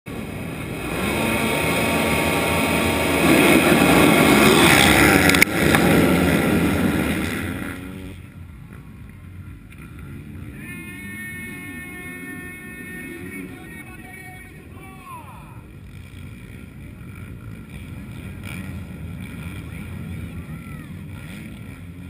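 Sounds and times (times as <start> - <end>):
motorbikes revving and accelerating: 0.1 - 22.0.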